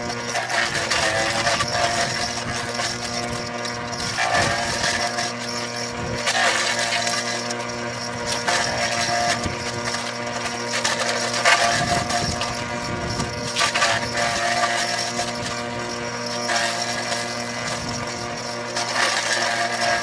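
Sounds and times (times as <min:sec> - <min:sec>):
machine motor humming: 0:00.0 - 0:20.0
mechanical rattling and knocks: 0:00.0 - 0:20.0.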